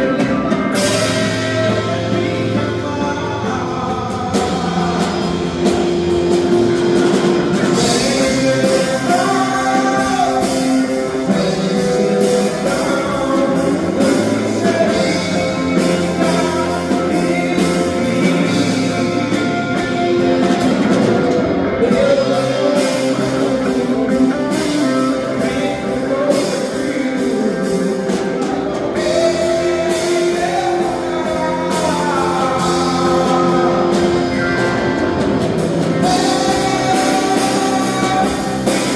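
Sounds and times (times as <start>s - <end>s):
live band playing worship song: 0.0s - 38.9s.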